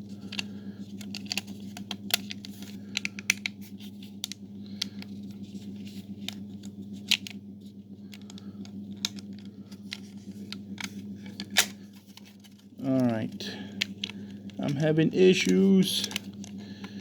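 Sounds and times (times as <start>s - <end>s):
steady low hum: 0.0s - 17.0s
plastic parts clicking and scraping: 0.1s - 7.4s, 8.1s - 17.0s.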